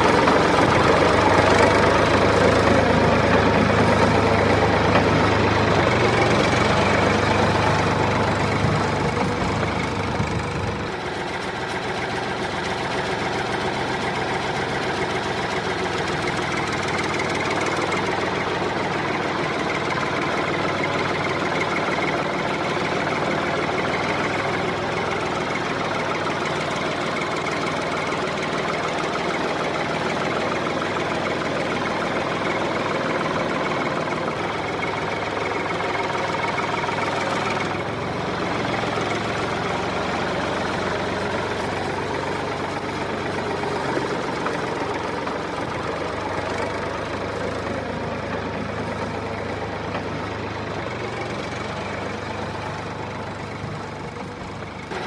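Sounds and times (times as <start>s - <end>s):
motor running with rattle: 0.0s - 55.0s.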